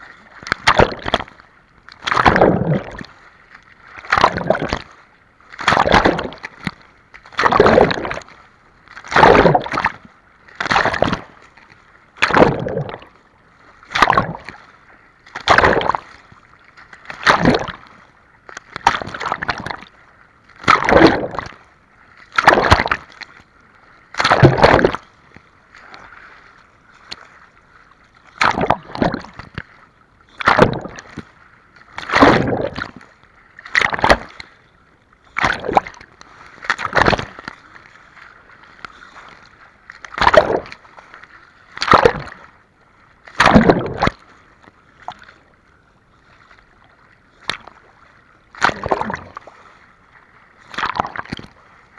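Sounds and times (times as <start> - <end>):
swimmer's strokes splashing: 0.3 - 1.4, 2.0 - 8.4, 9.0 - 11.5, 12.2 - 14.7, 15.3 - 34.6, 35.2 - 42.6, 43.2 - 45.4, 46.3 - 51.9.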